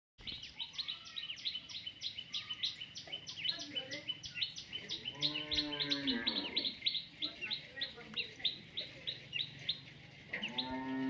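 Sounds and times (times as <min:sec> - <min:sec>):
baby parrots chirping: 0:00.5 - 0:10.8.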